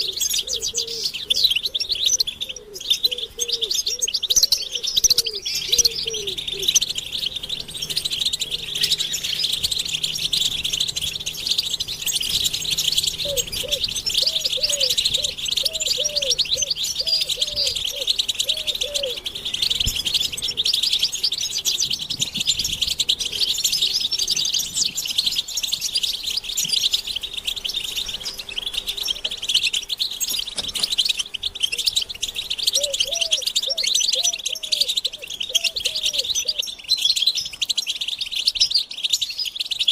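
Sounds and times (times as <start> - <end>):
finches twittering: 0.0 - 39.9
low rapidly repeated bird notes: 0.0 - 39.9.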